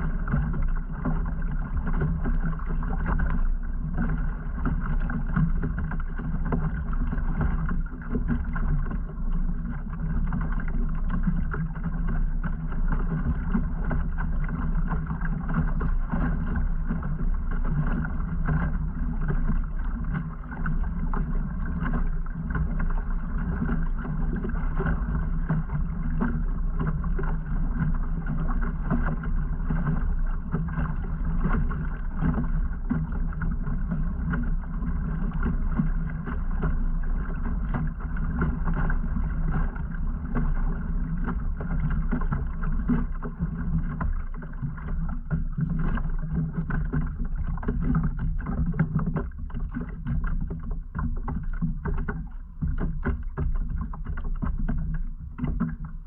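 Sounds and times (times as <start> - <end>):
constant low hum: 0.0 - 56.0
water washing along hull: 0.0 - 56.0.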